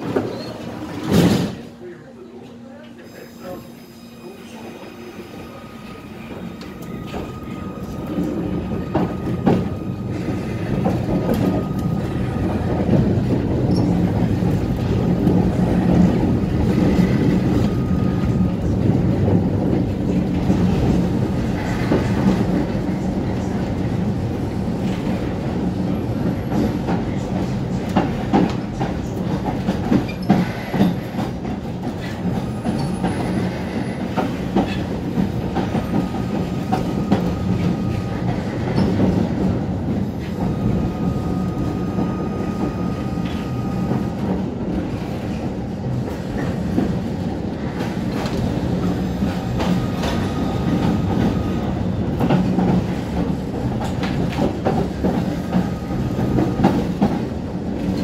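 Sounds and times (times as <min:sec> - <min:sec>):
tram wheels rumbling on rail: 0:00.0 - 0:58.0.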